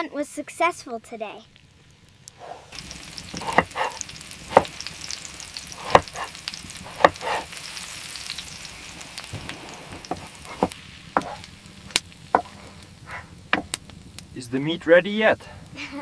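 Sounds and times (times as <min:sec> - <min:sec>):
meat sizzling: 0:00.2 - 0:16.0.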